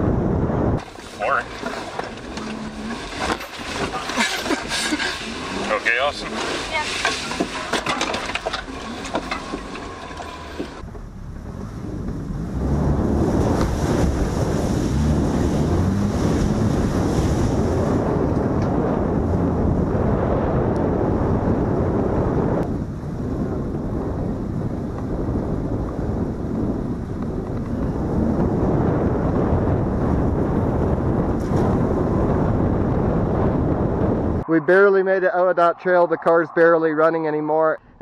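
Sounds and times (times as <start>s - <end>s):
car engine and tyres: 0.0s - 38.0s
wind on microphone: 0.0s - 38.0s.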